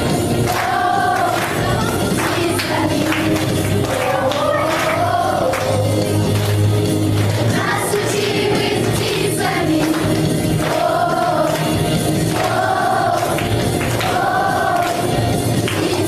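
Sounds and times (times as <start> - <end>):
choir singing in unison: 0.0 - 5.9, 7.4 - 16.0
musical accompaniment: 0.0 - 16.0.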